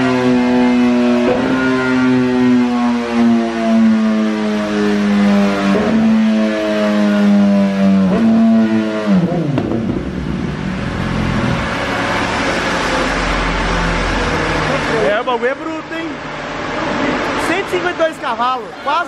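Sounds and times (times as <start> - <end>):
motorcycle engine at full throttle: 0.0 - 18.6.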